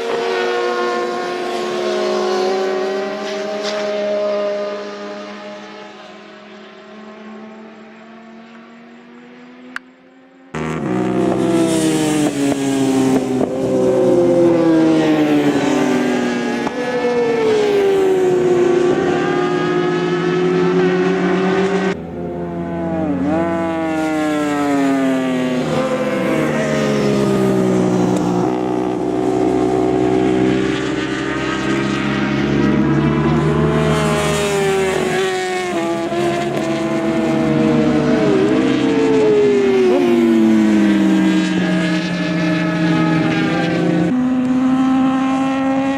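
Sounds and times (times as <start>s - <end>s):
racing motorcycles shifting gears: 8.4s - 45.9s.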